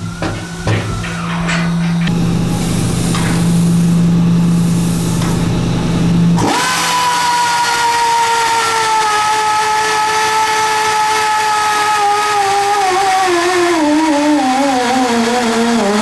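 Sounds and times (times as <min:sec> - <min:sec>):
motor whining: 0:00.0 - 0:16.0.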